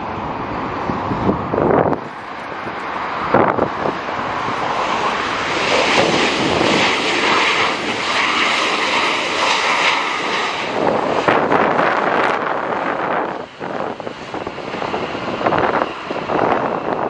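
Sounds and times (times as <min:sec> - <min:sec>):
jet airliner passing: 0:00.0 - 0:17.0.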